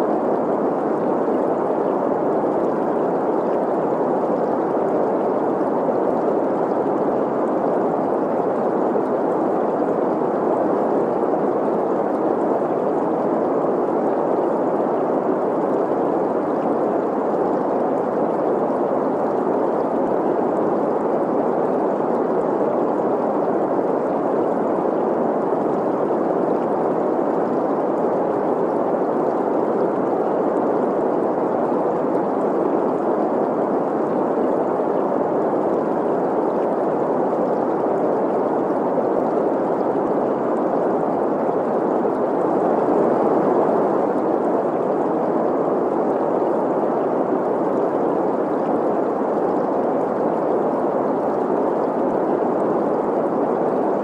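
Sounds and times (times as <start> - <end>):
flowing stream: 0.0 - 54.0.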